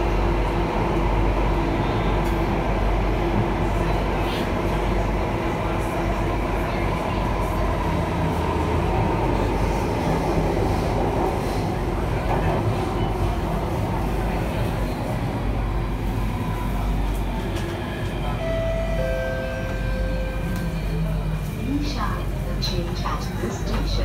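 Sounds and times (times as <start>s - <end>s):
metro train running in tunnel: 0.0s - 24.0s.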